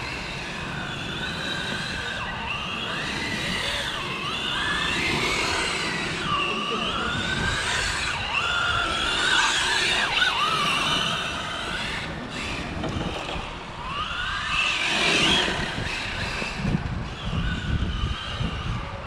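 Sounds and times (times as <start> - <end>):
toy truck electric motor whining: 0.0 - 19.0.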